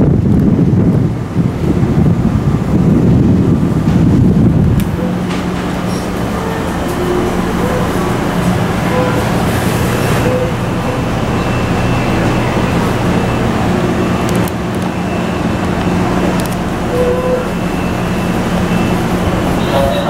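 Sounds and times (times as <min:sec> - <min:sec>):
electric train running: 0:00.0 - 0:20.0.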